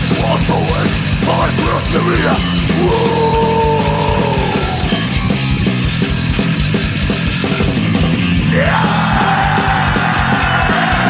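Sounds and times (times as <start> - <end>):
distorted electric guitars: 0.0 - 11.0
fast driving drums: 0.0 - 11.0.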